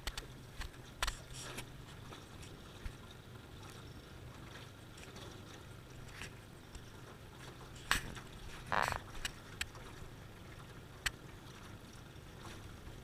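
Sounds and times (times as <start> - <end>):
boat engine running slowly: 0.0 - 13.0.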